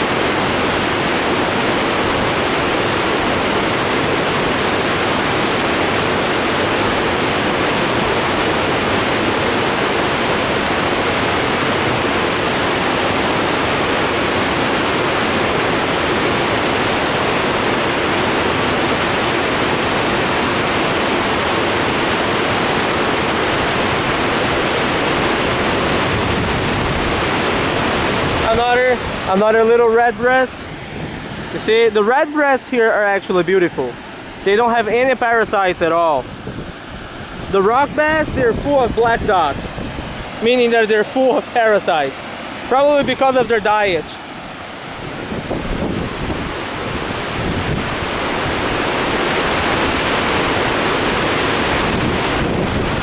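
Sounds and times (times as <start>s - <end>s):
creek rushing: 0.0s - 53.0s.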